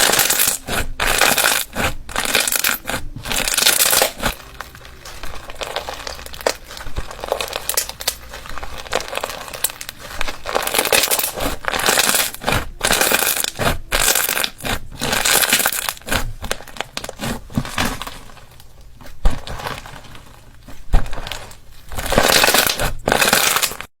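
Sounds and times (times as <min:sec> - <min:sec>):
slime squishing and crackling: 0:00.0 - 0:23.9.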